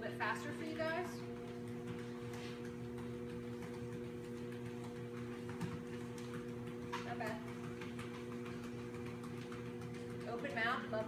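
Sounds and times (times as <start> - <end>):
treadmill motor humming: 0.0 - 11.0.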